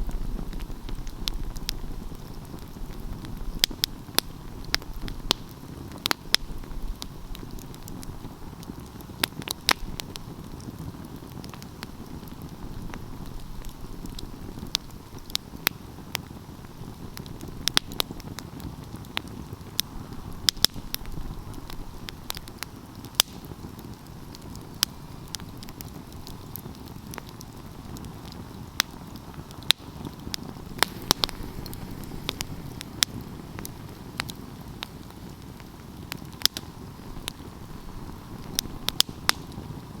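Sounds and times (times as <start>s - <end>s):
flames rushing: 0.0s - 40.0s
logs crackling and popping: 0.0s - 40.0s.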